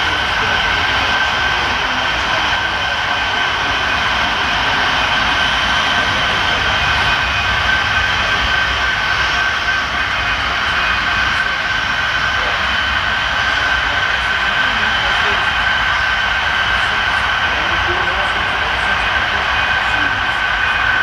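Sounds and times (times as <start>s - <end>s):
high motor whine: 0.0s - 21.0s
model train mechanical drone: 0.0s - 21.0s.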